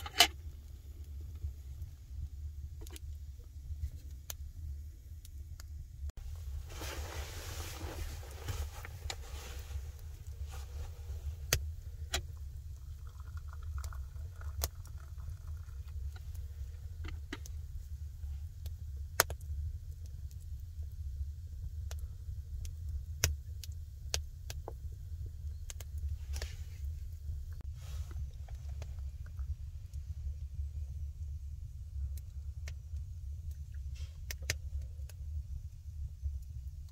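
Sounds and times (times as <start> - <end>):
low fire rumble: 0.0 - 36.9
wood fire crackling and popping: 0.0 - 36.9.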